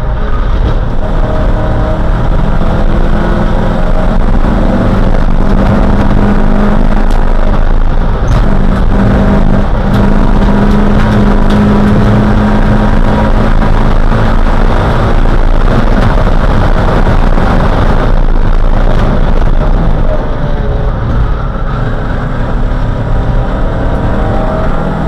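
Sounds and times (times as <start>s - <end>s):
car engine under load: 0.0s - 25.0s
wind and road noise: 0.0s - 25.0s.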